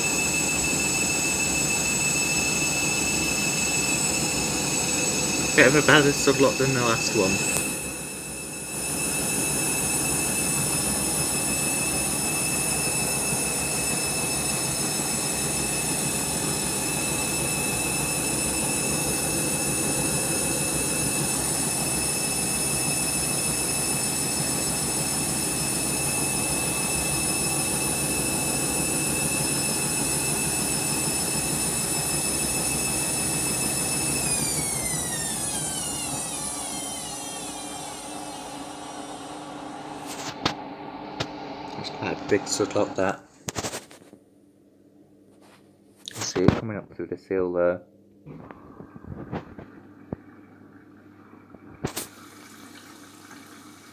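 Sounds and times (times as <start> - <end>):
washing machine motor whining: 0.0 - 43.2, 48.3 - 53.9.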